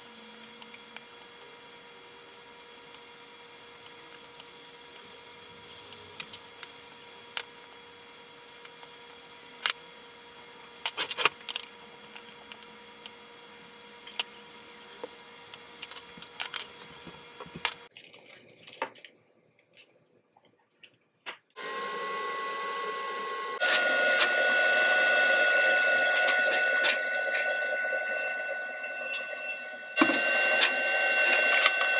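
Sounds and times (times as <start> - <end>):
stovetop whir with whine and hiss: 0.0 - 19.9, 21.5 - 31.9.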